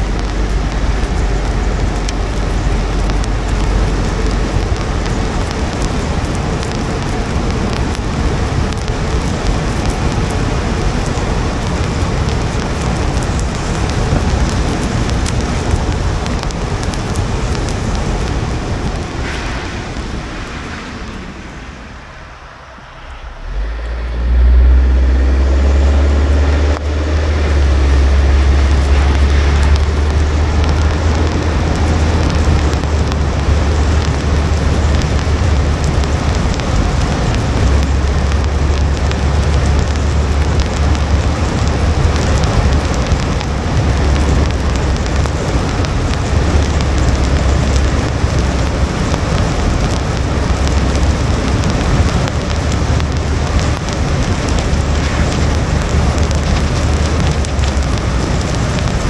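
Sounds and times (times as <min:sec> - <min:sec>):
low rumble: 0:00.0 - 0:59.0
rain: 0:00.0 - 0:59.0
tyre spray on wet road: 0:00.0 - 0:59.0.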